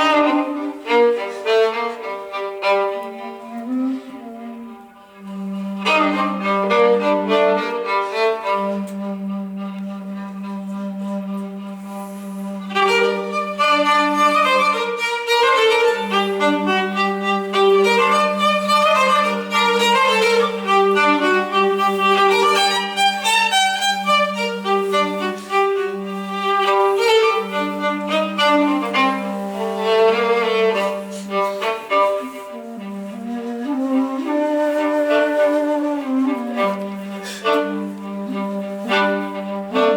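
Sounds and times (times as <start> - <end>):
bowed string melody: 0.0 - 39.9.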